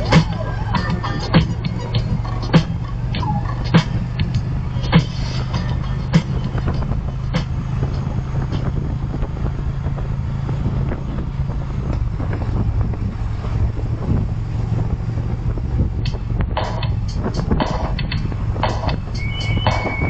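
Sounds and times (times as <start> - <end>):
car road and engine drone: 0.0 - 20.0.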